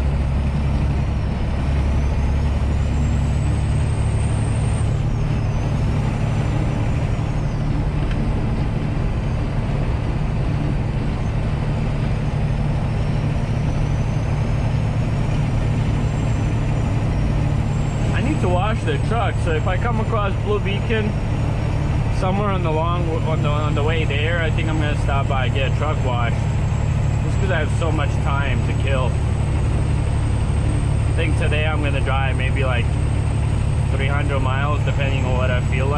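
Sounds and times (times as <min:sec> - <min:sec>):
road noise: 0:00.0 - 0:35.9
truck diesel engine running: 0:00.0 - 0:35.9.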